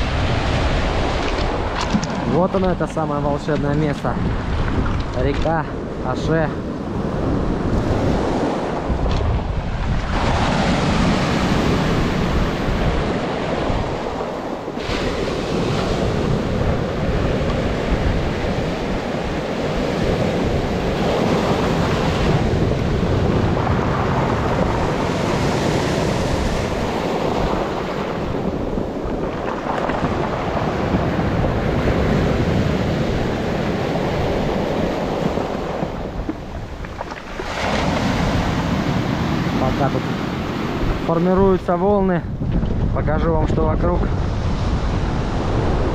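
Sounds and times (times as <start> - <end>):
sea waves breaking on shore: 0.0 - 45.9
wind rumbling on microphone: 0.0 - 45.9.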